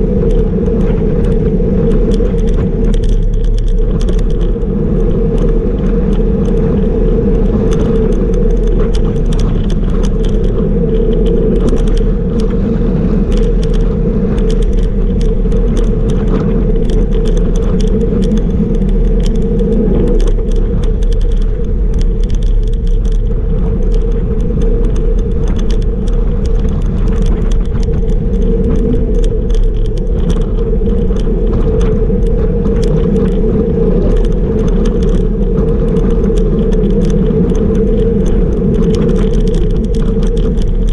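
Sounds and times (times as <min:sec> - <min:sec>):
bike rattles and ticks: 0:00.0 - 0:40.9
road rumble: 0:00.0 - 0:40.9
wind rush: 0:00.0 - 0:40.9.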